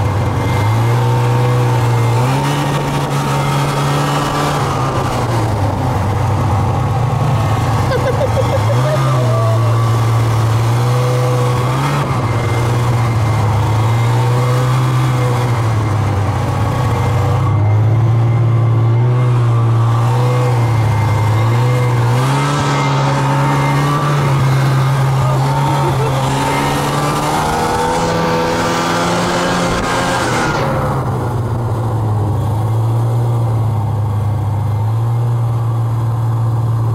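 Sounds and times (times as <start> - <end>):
snowmobile engine running: 0.0 - 36.9.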